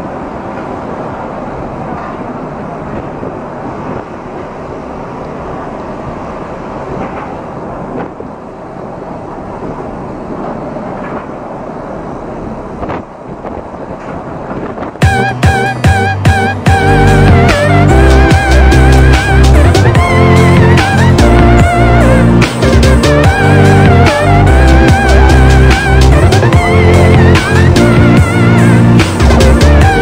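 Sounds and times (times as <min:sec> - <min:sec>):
heavy seas breaking: 0:00.0 - 0:30.0
wind roaring: 0:00.0 - 0:30.0
low rumble: 0:01.6 - 0:30.0.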